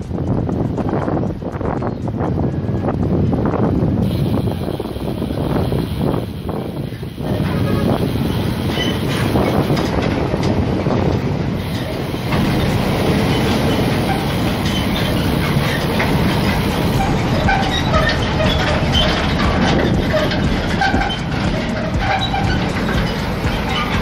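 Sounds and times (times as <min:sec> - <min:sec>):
wind and road rumble: 0:00.0 - 0:24.0
rattling: 0:04.0 - 0:24.0.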